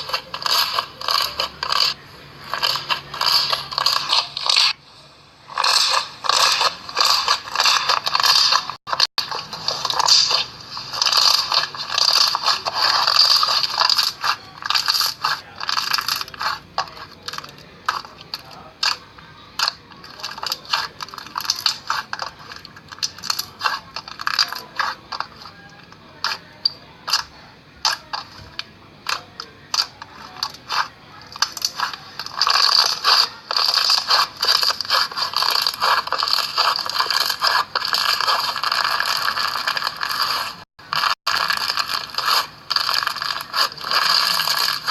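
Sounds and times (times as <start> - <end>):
slime clicking and crackling: 0.0 - 4.8, 5.5 - 44.9.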